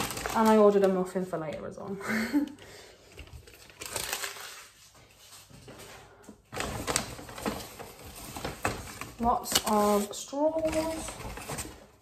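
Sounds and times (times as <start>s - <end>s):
paper bag rustling: 0.0s - 1.2s, 3.0s - 12.0s.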